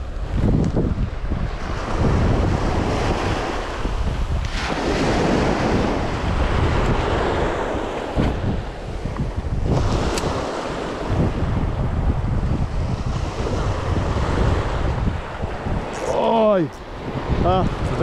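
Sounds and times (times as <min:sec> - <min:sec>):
small waves washing on shore: 0:00.0 - 0:18.0
wind buffeting microphone: 0:00.0 - 0:18.0.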